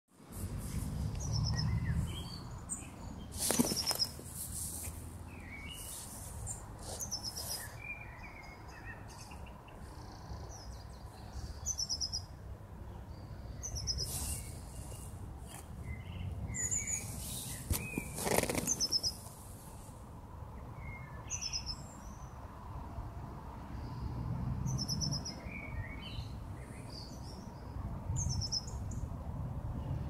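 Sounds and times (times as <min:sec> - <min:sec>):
small birds chirping: 0:00.6 - 0:20.0, 0:20.6 - 0:22.4, 0:24.7 - 0:29.1.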